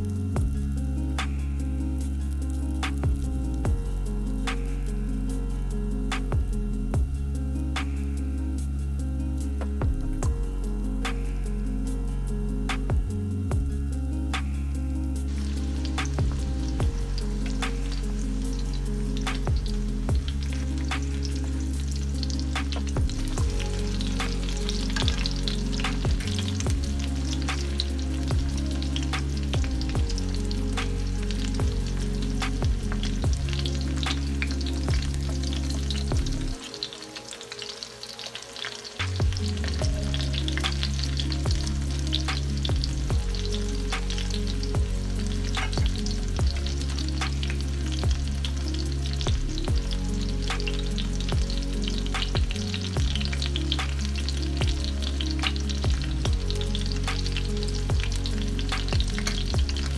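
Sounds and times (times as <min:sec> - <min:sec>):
frying oil sizzling and popping: 0:00.0 - 0:08.7, 0:09.4 - 0:59.9.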